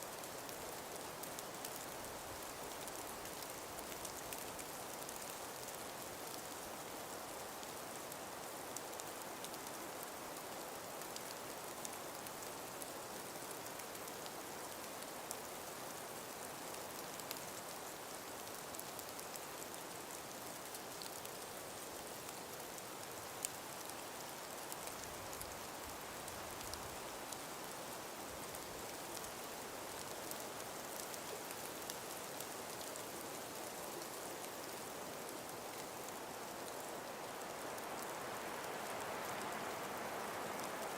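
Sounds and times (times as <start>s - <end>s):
breeze through trees: 0.0s - 40.9s
small ticks: 0.1s - 40.9s.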